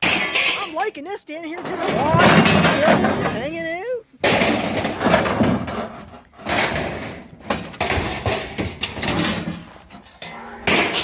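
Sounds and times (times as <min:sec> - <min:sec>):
scrap metal crashing onto pile: 0:00.0 - 0:00.9, 0:01.5 - 0:11.0.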